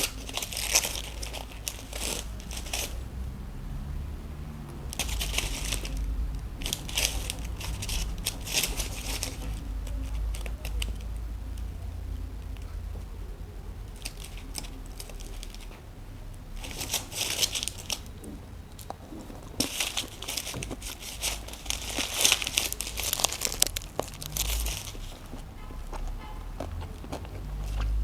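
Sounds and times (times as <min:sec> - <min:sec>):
wrapper crinkling: 0:00.0 - 0:12.8, 0:13.7 - 0:28.0.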